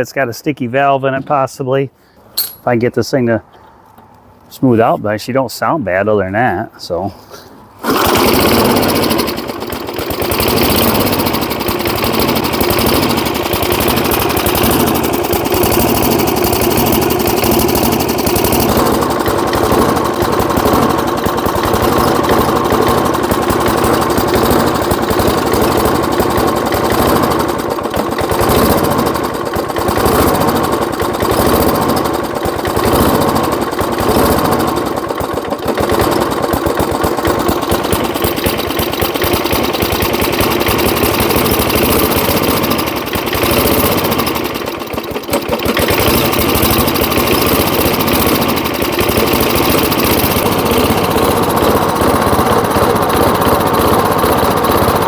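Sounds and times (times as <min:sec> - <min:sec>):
push mower engine running: 0:07.3 - 0:55.0.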